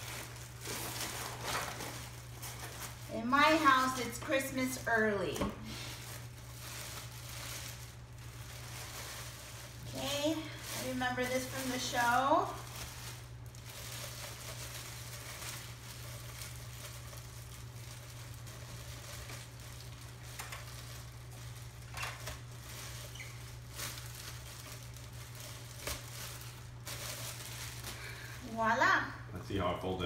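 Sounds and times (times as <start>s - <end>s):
plastic wrapping crinkling: 0.0s - 28.8s.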